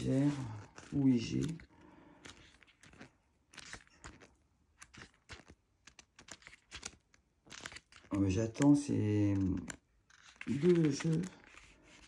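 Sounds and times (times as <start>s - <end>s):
cards tapping and rustling: 0.0s - 12.0s.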